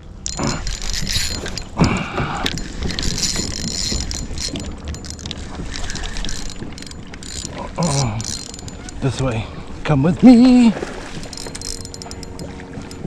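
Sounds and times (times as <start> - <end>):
kayak pedal drive clicking and creaking: 0.0 - 9.8, 11.0 - 13.0
water noise: 0.0 - 13.0.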